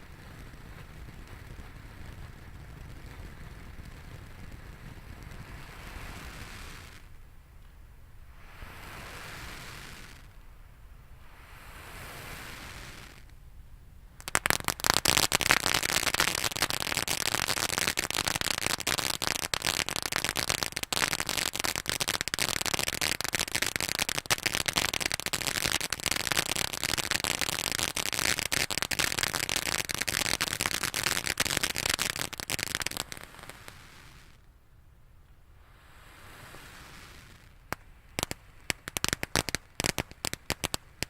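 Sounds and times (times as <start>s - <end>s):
firework crackling pops: 0.0s - 10.5s, 11.3s - 13.4s, 14.1s - 34.5s, 35.6s - 41.0s.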